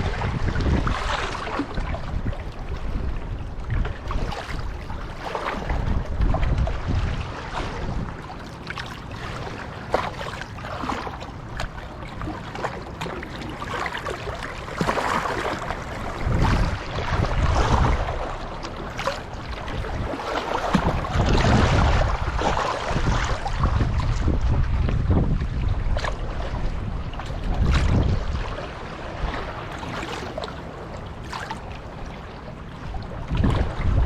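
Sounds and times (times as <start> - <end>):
waves lapping against bank: 0.0 - 34.0
wind buffeting microphone: 0.0 - 34.0.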